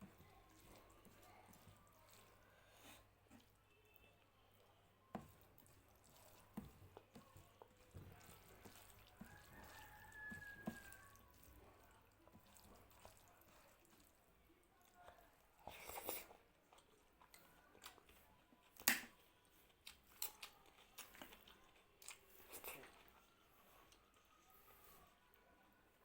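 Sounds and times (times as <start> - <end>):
wet clicks of eating and chewing: 0.0 - 2.5, 3.3 - 24.5.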